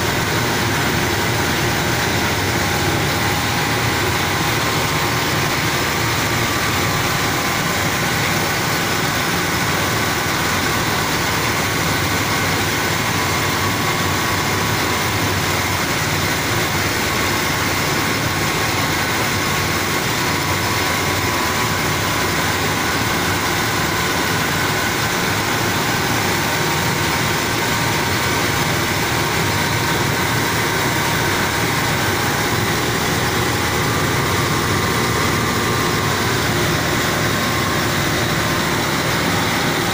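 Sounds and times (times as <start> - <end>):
rice mill machine drone: 0.0 - 39.9
steady whining tones: 0.0 - 39.9.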